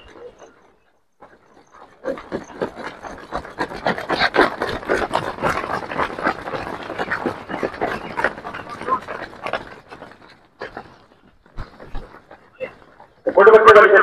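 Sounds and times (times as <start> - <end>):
runners' footfalls on a track: 0.0 - 14.0.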